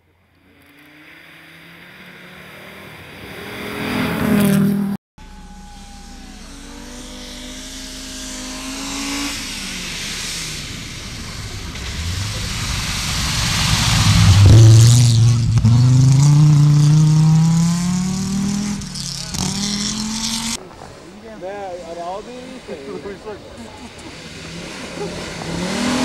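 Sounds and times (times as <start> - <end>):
rally car engine revving hard: 1.5 - 20.6, 23.8 - 26.0.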